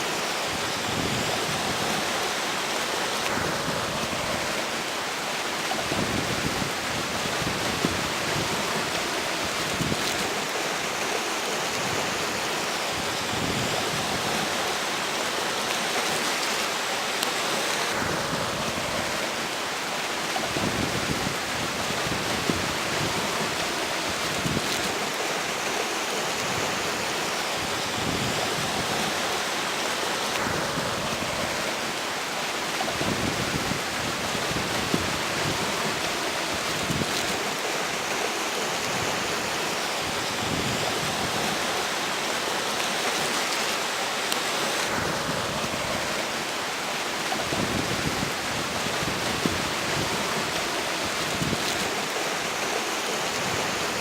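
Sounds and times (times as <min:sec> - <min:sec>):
strong wind gusting: 0:00.0 - 0:15.0, 0:17.4 - 0:54.0
river water rushing: 0:00.0 - 0:54.0.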